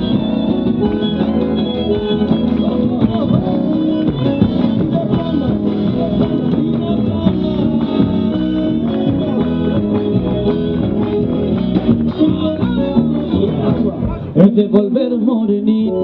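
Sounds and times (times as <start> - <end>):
guitars playing folk dance tune: 0.0 - 16.0.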